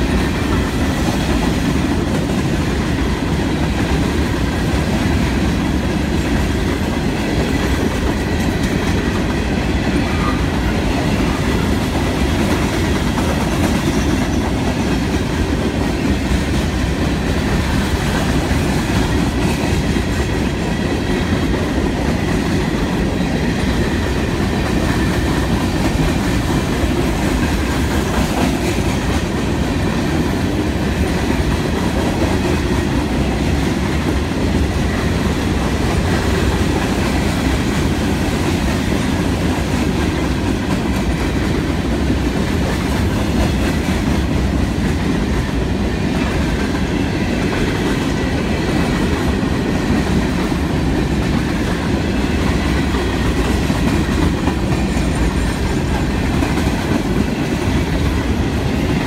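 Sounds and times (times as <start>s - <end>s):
freight train rumbling past: 0.0s - 59.0s
steel wheels clacking on rails: 0.0s - 59.0s.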